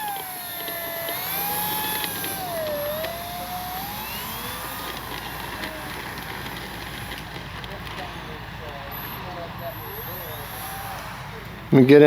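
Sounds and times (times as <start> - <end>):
electric motor and propeller whining: 0.0 - 12.0.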